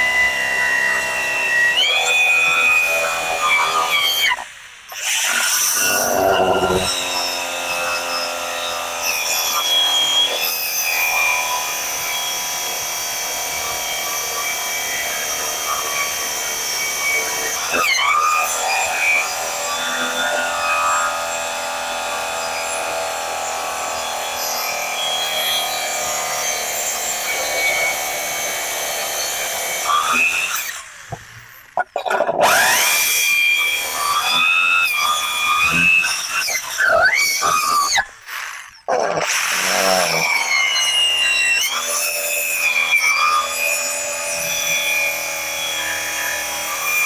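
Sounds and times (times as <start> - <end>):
drill motor whine: 0.0 - 47.0
saw blade rasping through wood: 0.0 - 47.0.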